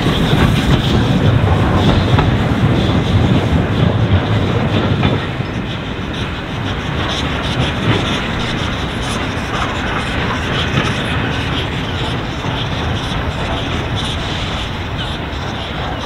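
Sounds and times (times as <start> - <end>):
steam locomotive rumbling: 0.0 - 16.0
wheels clattering over rail joints: 0.0 - 16.0.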